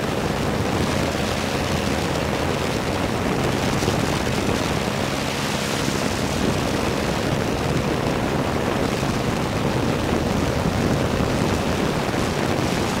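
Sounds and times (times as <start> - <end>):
aircraft engine and propeller: 0.0 - 13.0
wind noise on microphone: 0.0 - 13.0.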